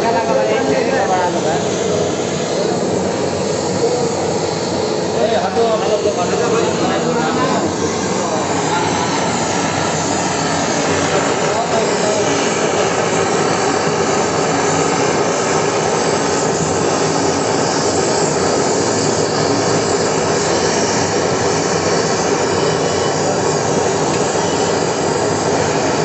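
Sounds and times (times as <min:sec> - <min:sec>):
gas torch flame rushing: 0:00.0 - 0:26.0.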